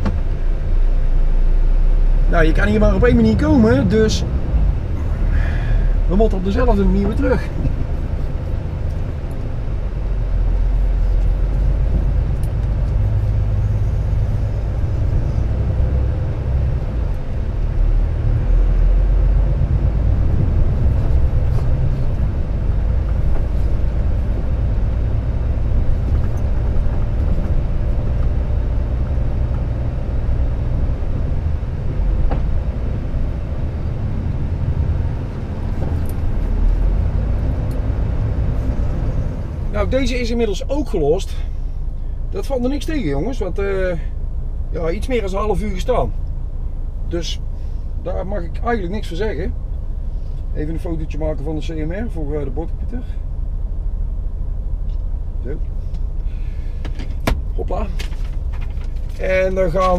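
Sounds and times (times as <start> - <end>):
truck diesel engine rumble: 0.0 - 59.9.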